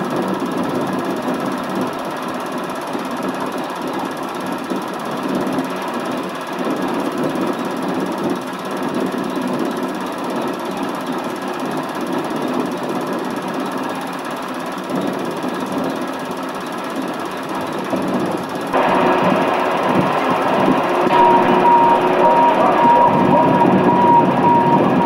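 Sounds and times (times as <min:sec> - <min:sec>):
film projector whirring and clattering: 0:00.0 - 0:25.0.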